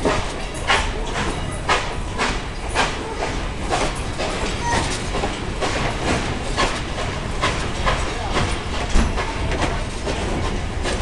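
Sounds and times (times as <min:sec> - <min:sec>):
train coaches clickety-clack: 0:00.0 - 0:11.0.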